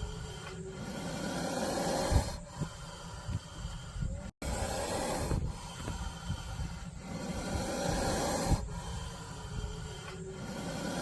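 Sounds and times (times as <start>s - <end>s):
snake hissing: 0.0s - 11.0s.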